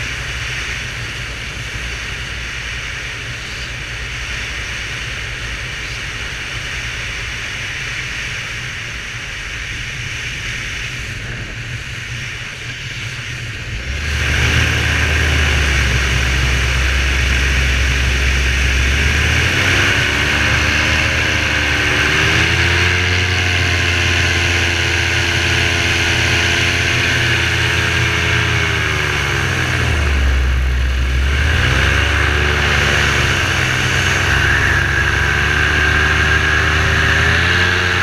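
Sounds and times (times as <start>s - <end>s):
paramotor engine and propeller: 0.0s - 38.0s.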